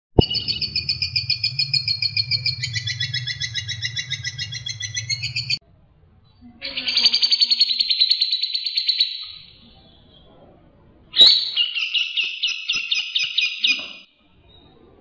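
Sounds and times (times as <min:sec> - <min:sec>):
songbird trilling chirps: 0:00.2 - 0:05.6, 0:06.6 - 0:10.3, 0:11.2 - 0:14.8.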